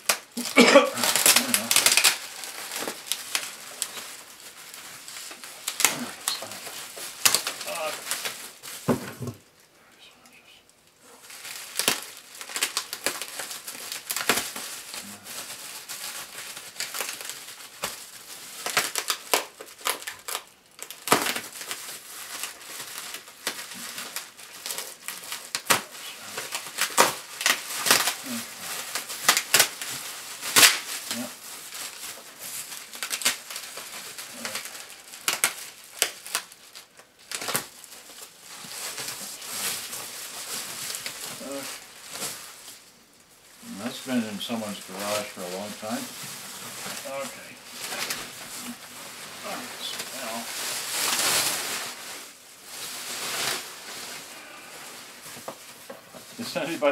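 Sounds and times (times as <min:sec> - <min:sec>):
bubble wrap crackling: 0:00.0 - 0:09.7, 0:10.9 - 0:56.9.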